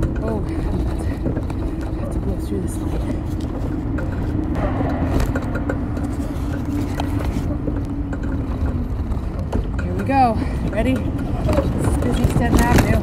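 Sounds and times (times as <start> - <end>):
road and wind noise: 0.0 - 13.0
small rattles: 0.0 - 13.0
steady hum: 0.0 - 13.0
street traffic: 0.0 - 13.0.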